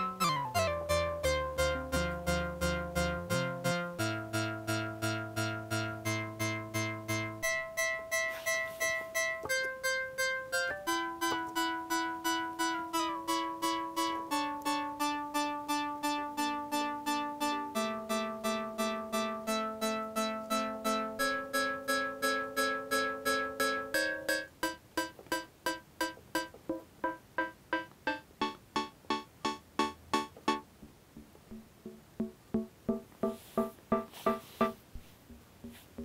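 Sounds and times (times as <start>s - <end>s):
synthesizer plucky notes sequence: 0.0s - 34.8s.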